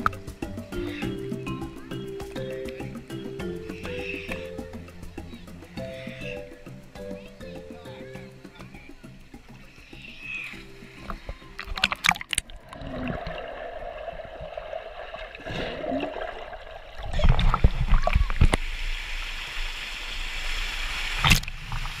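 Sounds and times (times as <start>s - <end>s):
pool water splashing and gurgling: 0.0s - 22.0s.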